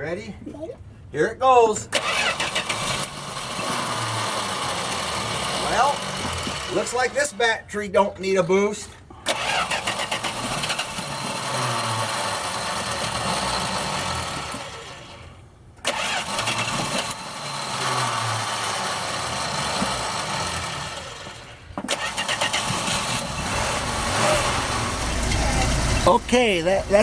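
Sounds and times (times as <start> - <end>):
engine starting and dying: 1.9 - 7.6, 8.4 - 27.0.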